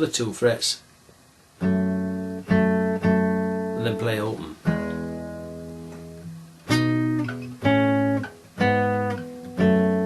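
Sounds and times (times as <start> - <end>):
fingerpicked acoustic guitar: 1.6 - 10.0.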